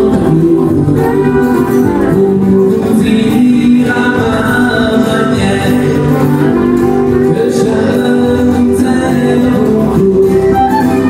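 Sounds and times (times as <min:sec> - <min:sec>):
acoustic guitars strummed: 0:00.0 - 0:11.0
man singing country song: 0:00.0 - 0:11.0.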